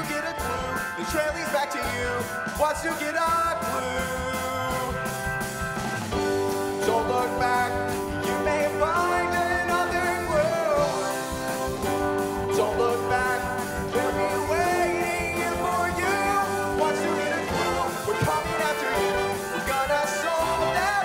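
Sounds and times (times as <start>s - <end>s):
person singing into a microphone: 0.0s - 5.1s, 6.8s - 11.7s, 12.5s - 21.0s
backing music with steady beat: 0.0s - 21.0s.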